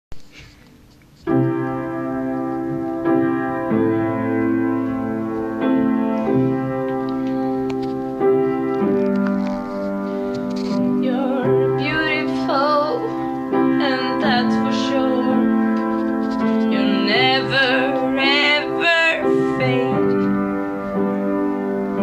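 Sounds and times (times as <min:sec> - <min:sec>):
keyboard playing held chords: 0:01.3 - 0:22.0.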